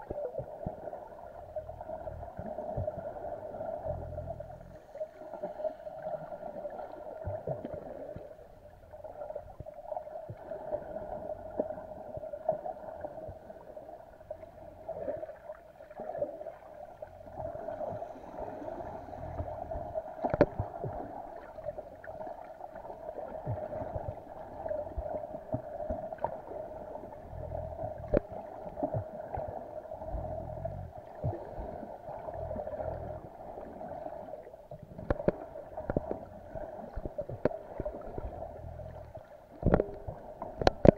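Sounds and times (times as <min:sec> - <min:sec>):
muffled underwater hum: 0:00.0 - 0:40.9
underwater clicks and crackles: 0:00.0 - 0:40.9
water gurgling: 0:00.0 - 0:40.9.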